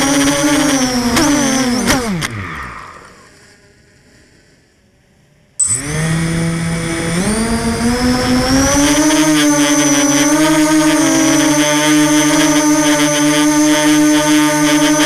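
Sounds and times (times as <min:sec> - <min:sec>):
quadcopter motors whining: 0:00.0 - 0:03.8, 0:05.6 - 0:15.0.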